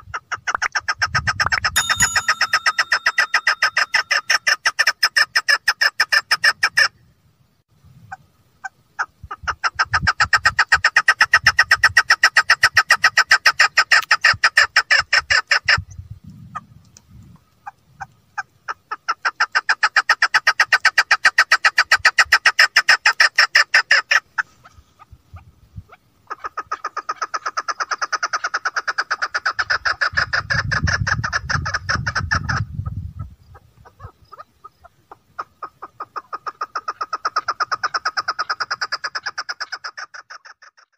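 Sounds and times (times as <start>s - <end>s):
partridge chuck calls: 0.0s - 6.9s, 8.1s - 16.7s, 17.4s - 40.9s.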